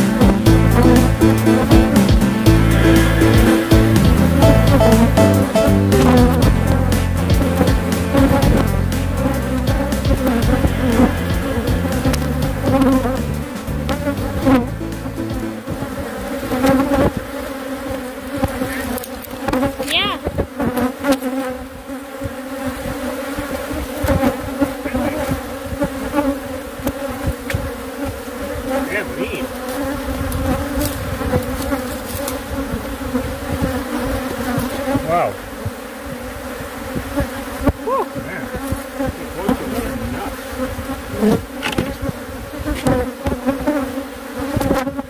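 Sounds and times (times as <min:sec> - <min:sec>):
bee swarm buzzing: 0:00.0 - 0:45.0
single bee whining past: 0:00.0 - 0:45.0.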